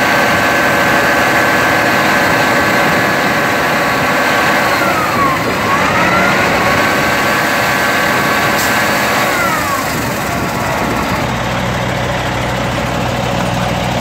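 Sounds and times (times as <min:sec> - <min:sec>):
diesel truck engine: 0:00.0 - 0:14.0.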